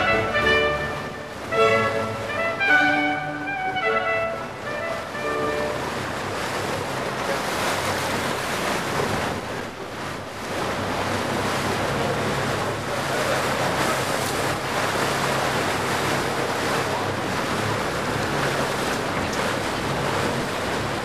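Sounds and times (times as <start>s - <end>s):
sea water rushing and splashing: 0.0s - 21.0s.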